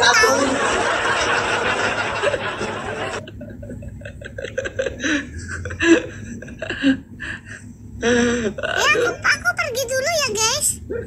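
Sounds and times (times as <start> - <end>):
people chuckling and laughing: 0.0 - 9.2.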